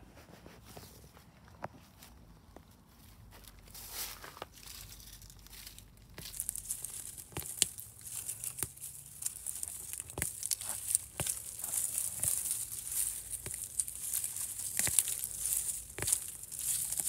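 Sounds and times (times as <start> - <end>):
crunching footsteps: 0.7 - 17.0.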